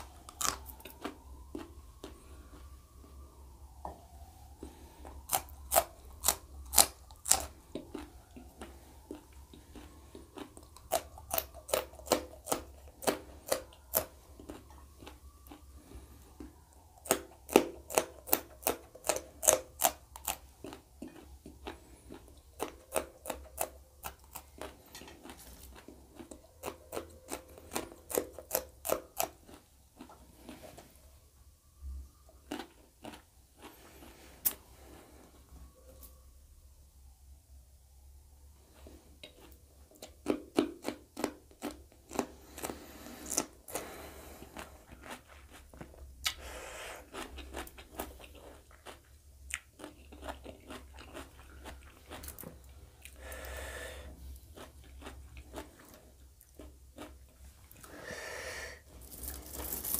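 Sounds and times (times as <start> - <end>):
crunching chillies being chewed: 0.0 - 31.2, 32.0 - 35.3, 38.6 - 59.9.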